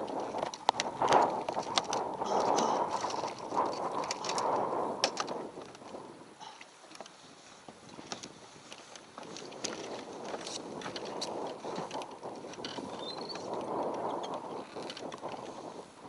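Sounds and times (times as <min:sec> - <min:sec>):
choppy water against raft: 0:00.0 - 0:16.0
wind: 0:00.0 - 0:16.0
small clicks and knocks: 0:00.1 - 0:05.8, 0:08.0 - 0:15.5.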